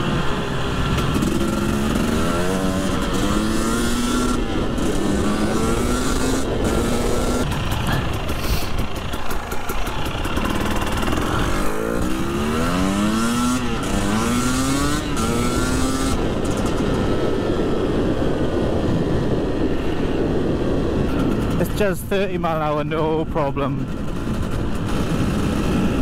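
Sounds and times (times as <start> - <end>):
motorcycle engine accelerating: 0.0 - 22.0, 23.0 - 26.0
wind noise on microphone: 0.0 - 26.0.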